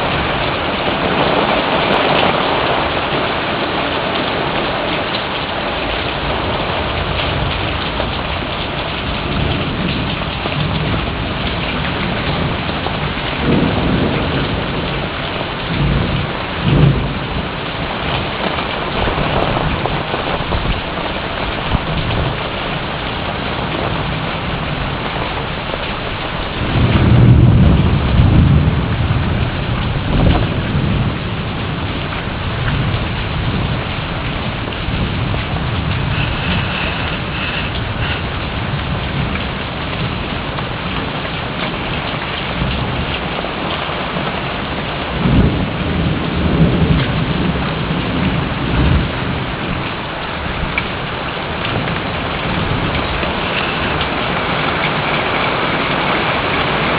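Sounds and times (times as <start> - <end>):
heavy rain: 0.0 - 56.9
thunder rumbling: 0.0 - 56.9.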